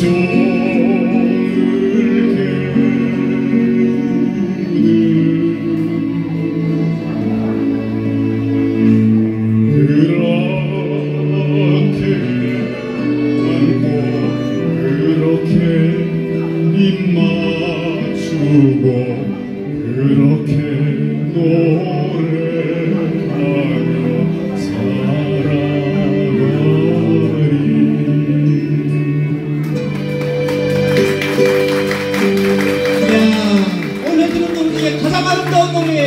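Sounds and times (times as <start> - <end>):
man singing into a microphone: 0.0 - 8.0, 8.7 - 29.7, 33.0 - 36.0
instrumental accompaniment: 0.0 - 36.0.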